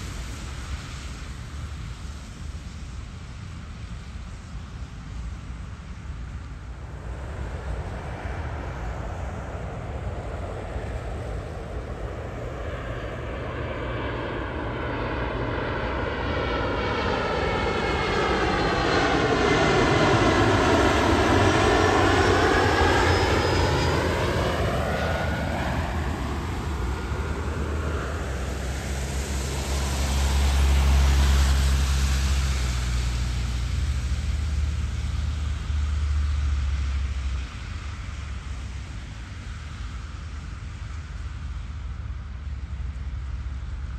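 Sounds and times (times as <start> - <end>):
jet engine passing: 0.0 - 43.9
deeper rumble: 6.6 - 43.9.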